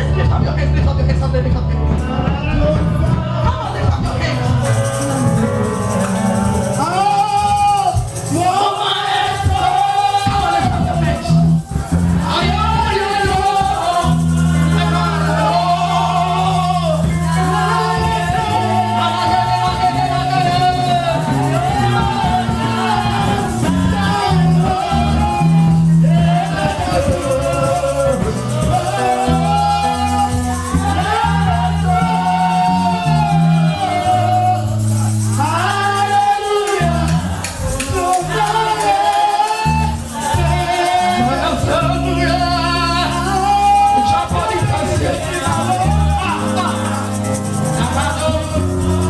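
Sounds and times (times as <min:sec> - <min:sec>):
held bass notes: 0:00.0 - 0:49.0
person singing: 0:01.5 - 0:49.0.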